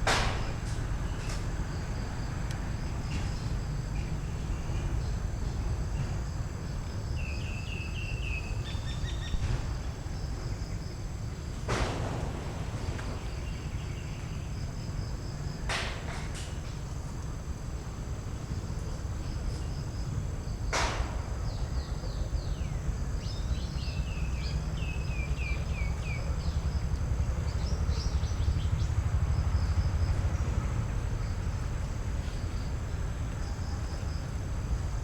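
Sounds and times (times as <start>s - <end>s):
insect trill: 0.2s - 35.0s.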